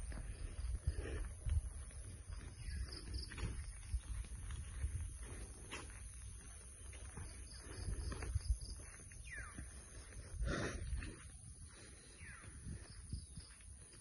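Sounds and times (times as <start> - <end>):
wind rumble on microphone: 0.0 - 14.0
birds calling: 0.2 - 4.6, 5.2 - 14.0.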